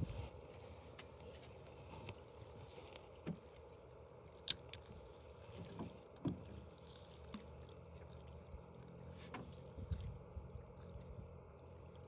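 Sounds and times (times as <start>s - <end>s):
waves lapping against a boat: 0.0s - 12.0s.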